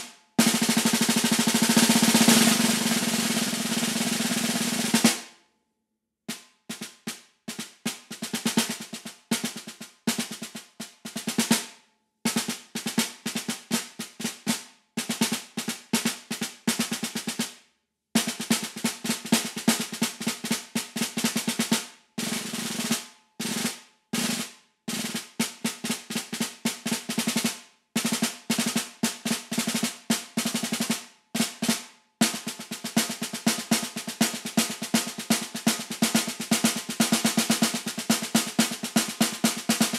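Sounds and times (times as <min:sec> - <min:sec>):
snare drum rapid strokes: 0:00.0 - 0:05.3, 0:06.3 - 0:11.7, 0:12.3 - 0:17.5, 0:18.2 - 0:39.9.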